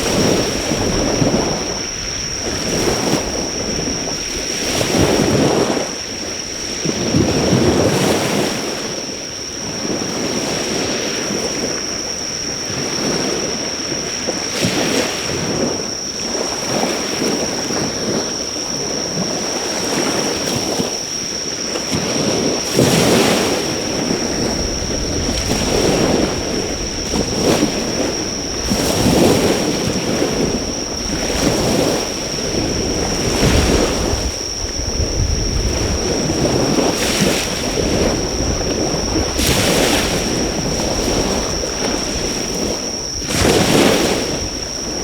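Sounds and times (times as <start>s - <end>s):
sea waves washing onto shore: 0.0s - 45.0s.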